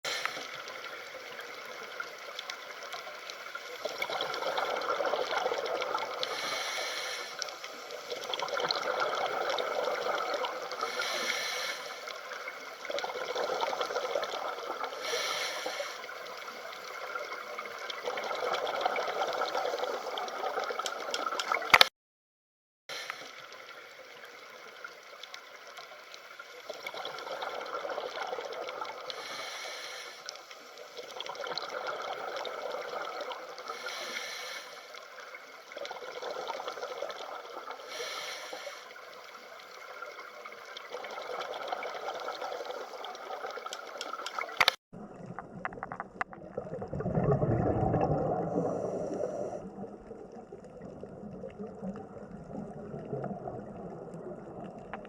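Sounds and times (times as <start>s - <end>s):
water trickling and gurgling: 0.1s - 21.8s, 22.9s - 55.0s.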